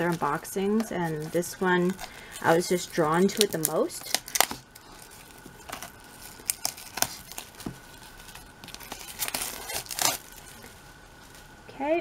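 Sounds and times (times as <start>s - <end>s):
plastic shrink wrap crinkling: 0.0s - 11.7s.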